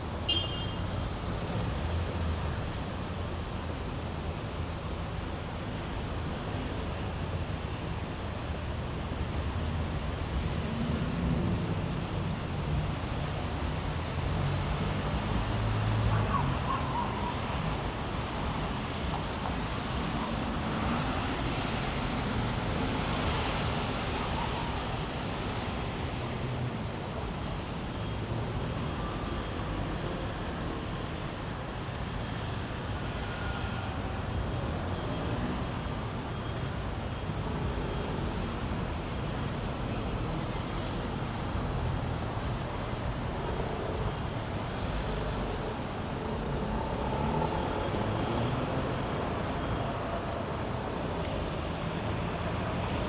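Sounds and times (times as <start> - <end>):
street traffic passing: 0.0 - 53.0.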